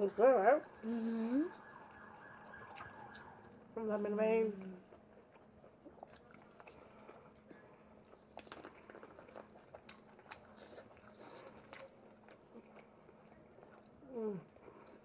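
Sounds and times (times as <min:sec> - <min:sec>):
people chewing: 0:00.1 - 0:15.0.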